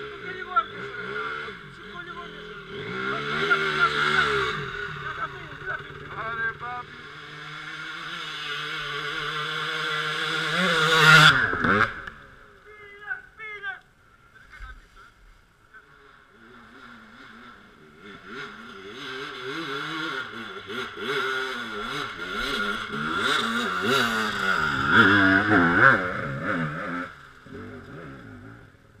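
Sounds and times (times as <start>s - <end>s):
dirt bike engine revving: 0.0s - 13.0s, 15.8s - 29.0s.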